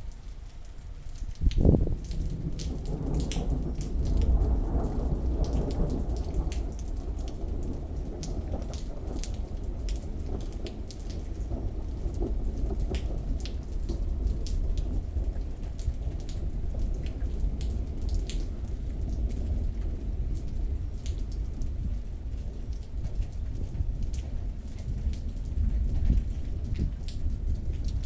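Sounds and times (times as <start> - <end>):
low rumble of thunder: 0.0 - 28.0
rain falling: 0.0 - 28.0.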